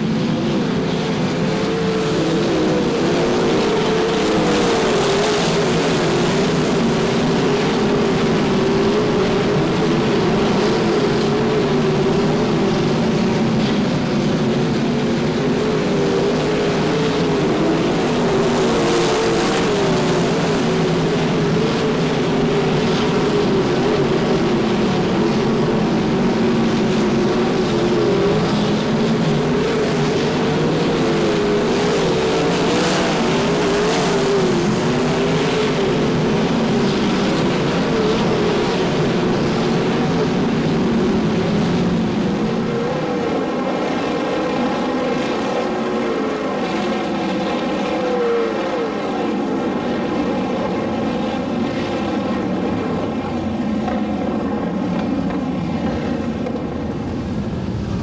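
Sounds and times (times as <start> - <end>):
racing car engines passing: 0.0 - 58.0.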